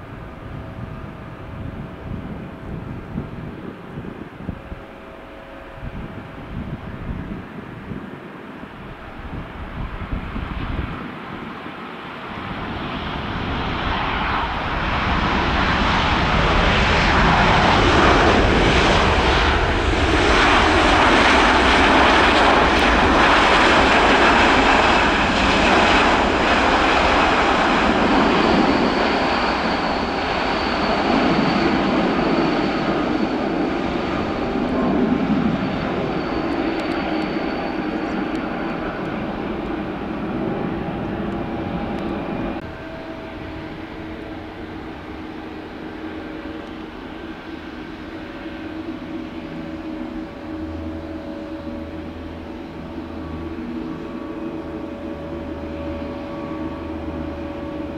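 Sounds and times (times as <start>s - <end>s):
jet engine high whine: 0.0s - 57.9s
jet engine roar: 0.0s - 57.9s.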